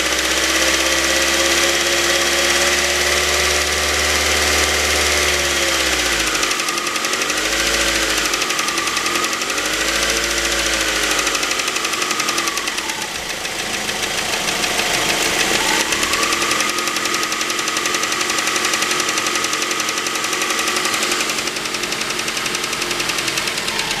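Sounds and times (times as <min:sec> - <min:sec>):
car engine revving: 0:00.0 - 0:24.0
fast light engine ticking: 0:00.0 - 0:24.0.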